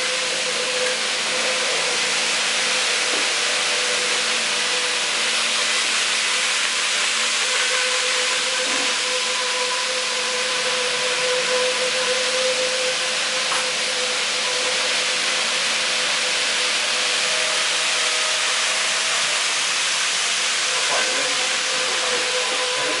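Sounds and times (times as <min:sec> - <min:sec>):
model train wheels hissing: 0:00.0 - 0:23.0.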